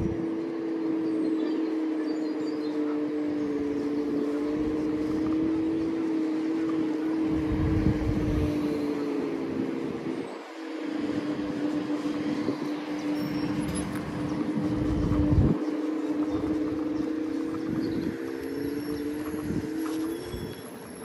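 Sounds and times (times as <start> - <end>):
electric motor whine: 0.0 - 21.0
wind and road rumble: 0.0 - 21.0.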